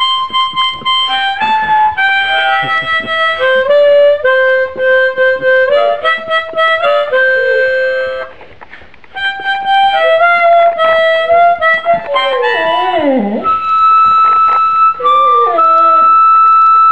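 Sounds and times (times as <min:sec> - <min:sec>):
harmonica playing slow melody: 0:00.0 - 0:08.4, 0:09.1 - 0:16.9.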